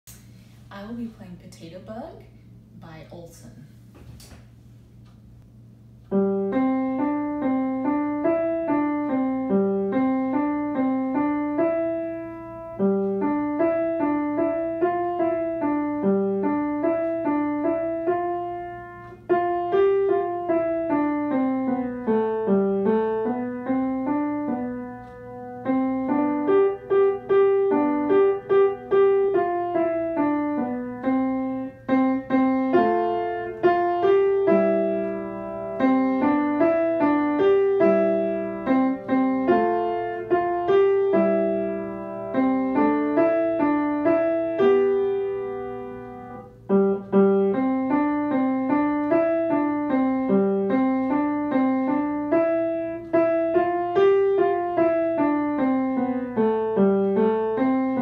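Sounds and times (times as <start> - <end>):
upright piano playing: 5.9 - 58.0.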